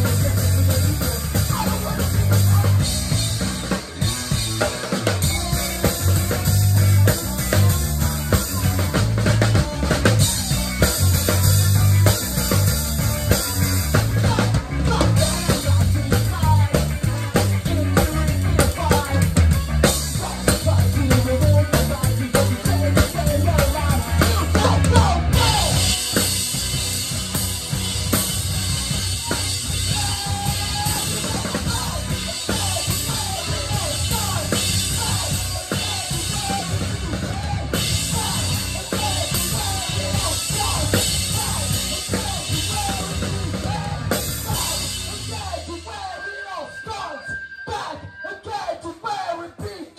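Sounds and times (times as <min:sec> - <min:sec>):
drum kit kick snare and cymbals: 0:00.0 - 0:46.2
live band playing: 0:00.0 - 0:49.9.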